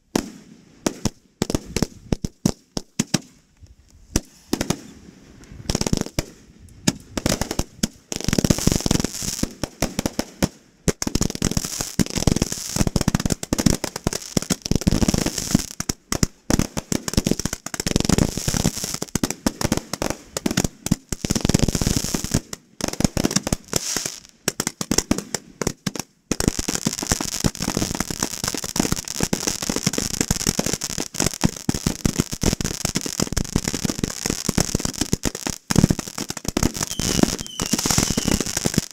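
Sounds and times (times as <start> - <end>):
fireworks bangs and crackling: 0.0 - 3.4, 4.1 - 38.9.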